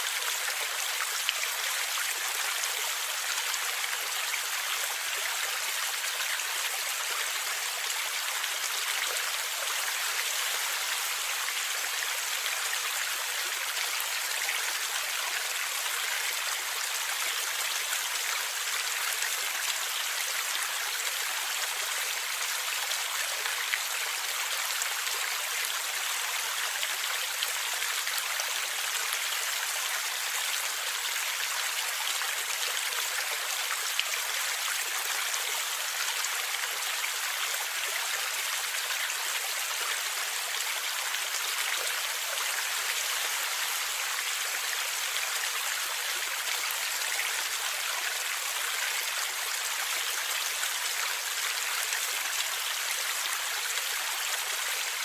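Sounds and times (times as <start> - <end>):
stream water gurgling: 0.0 - 55.0.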